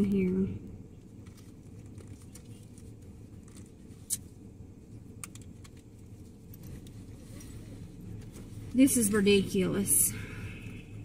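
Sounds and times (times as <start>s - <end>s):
handling clicks and rustles: 0.0s - 9.4s
low steady hum: 0.0s - 11.0s.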